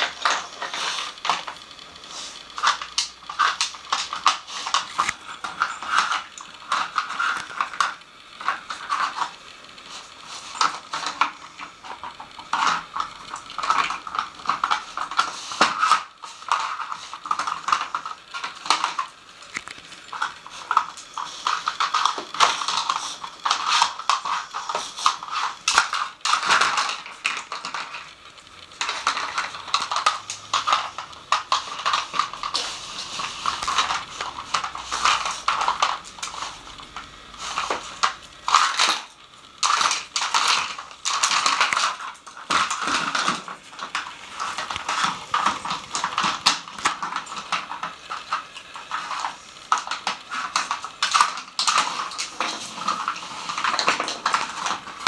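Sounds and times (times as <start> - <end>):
crunching: 0.0 - 55.0
plastic pieces clattering: 0.0 - 55.0.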